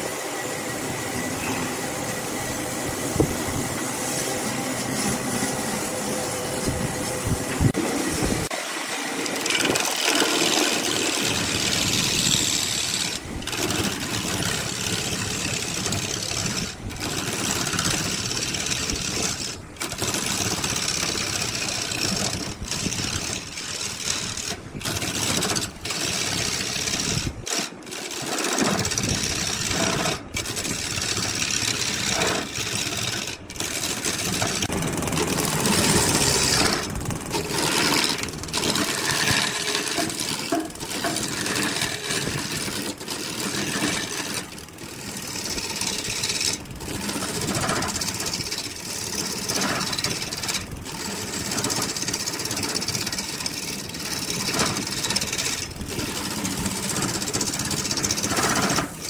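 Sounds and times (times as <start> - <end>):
wood lathe tool cutting wood: 0.0 - 59.0.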